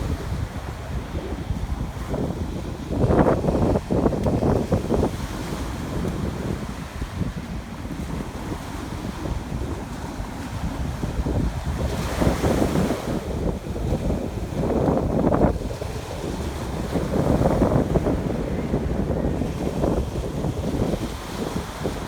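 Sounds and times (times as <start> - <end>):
ocean waves breaking on beach: 0.0 - 22.0
wind buffeting microphone: 0.0 - 22.0.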